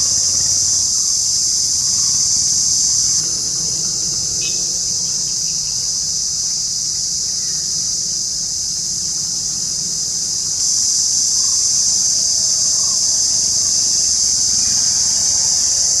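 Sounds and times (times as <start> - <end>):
cicada buzzing: 0.0 - 16.0.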